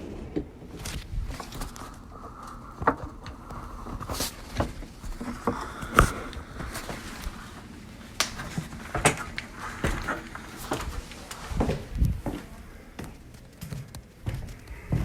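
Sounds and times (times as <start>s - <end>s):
footsteps in a house: 0.6s - 15.0s.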